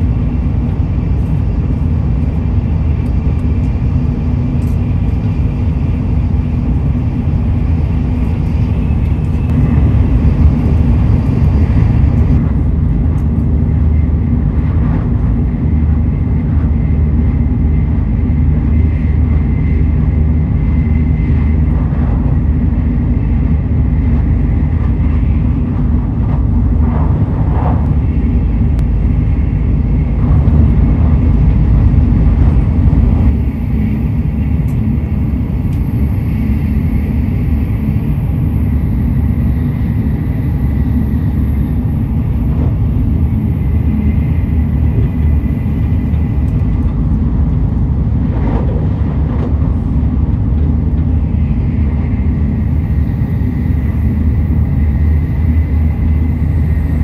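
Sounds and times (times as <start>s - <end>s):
rushing air: 0.0s - 57.0s
train wheels rumbling on rail: 0.0s - 57.0s.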